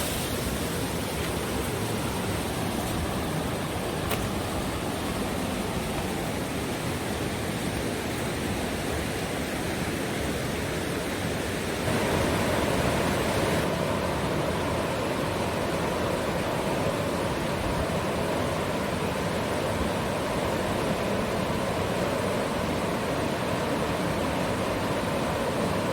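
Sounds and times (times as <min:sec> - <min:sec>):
fast-flowing river water: 0:00.0 - 0:25.9.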